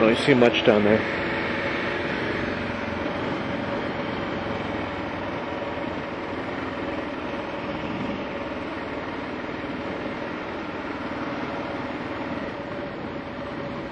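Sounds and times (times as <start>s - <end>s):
motorcycle engine running: 0.0s - 13.9s
wind rush: 0.0s - 13.9s.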